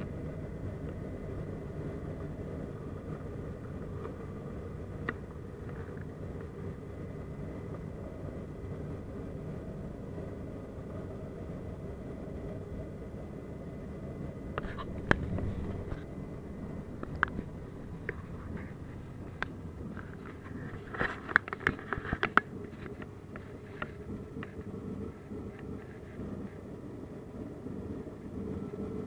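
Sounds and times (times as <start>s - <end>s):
faint steady whine: 0.0s - 29.0s
turboprop engines droning: 0.0s - 29.0s.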